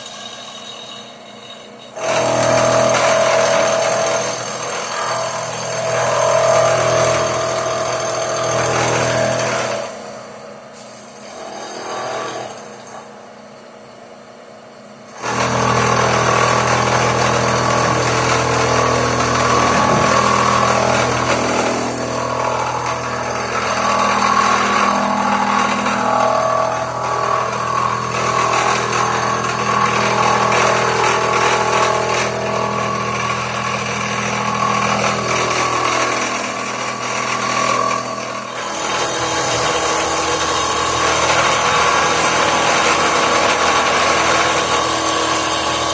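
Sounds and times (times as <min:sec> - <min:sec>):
power tool grinding: 0:01.9 - 0:10.0, 0:15.2 - 0:45.9.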